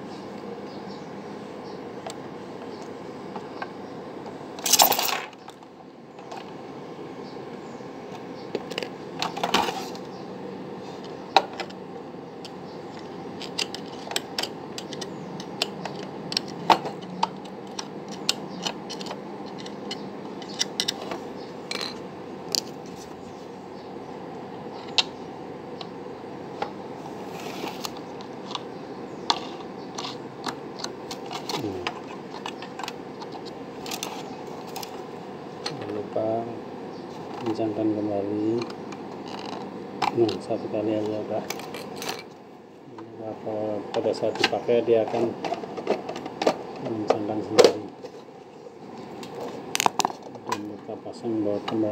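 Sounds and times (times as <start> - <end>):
steady background hiss: 0.0 - 51.9.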